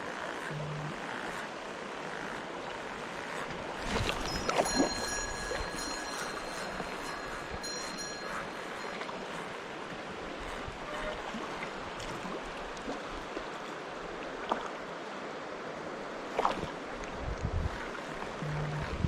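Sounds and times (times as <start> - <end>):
mountain stream rushing: 2.4 - 18.4.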